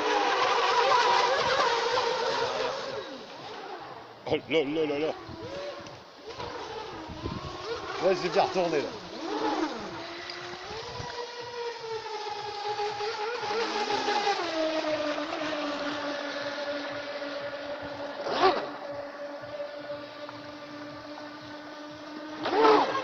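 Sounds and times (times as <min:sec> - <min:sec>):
speedboat motor whining: 0:00.0 - 0:23.0.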